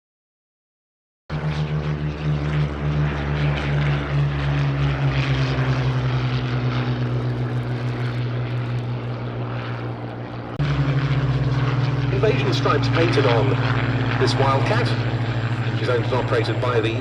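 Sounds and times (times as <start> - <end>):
propeller engine running: 1.3 - 17.0.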